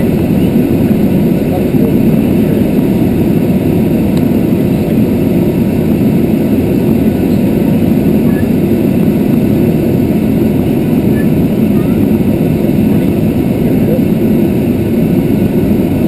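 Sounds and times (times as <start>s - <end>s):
aircraft engine drone in cockpit: 0.0s - 16.0s.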